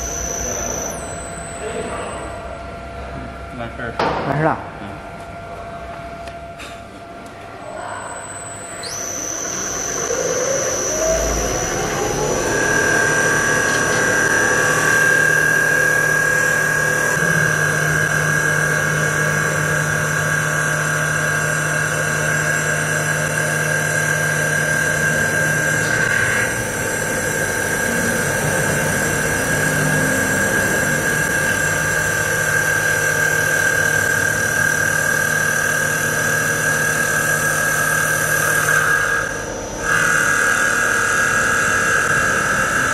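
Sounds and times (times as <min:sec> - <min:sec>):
lathe spindle whining: 0:00.0 - 0:02.5, 0:08.1 - 0:42.9.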